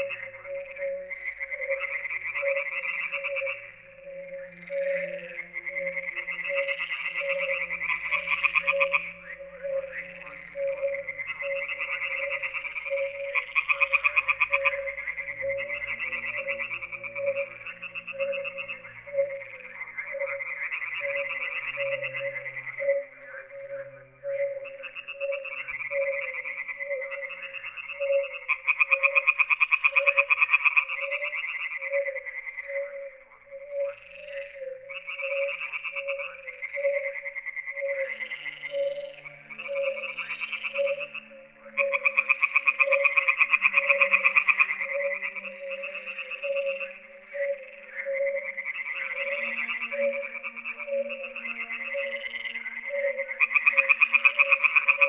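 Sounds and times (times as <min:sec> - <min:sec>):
frogs calling: 0:00.0 - 0:55.0.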